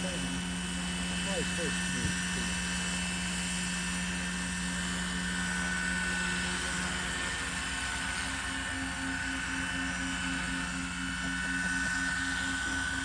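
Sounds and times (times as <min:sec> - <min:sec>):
model helicopter motor whine: 0:00.0 - 0:13.0.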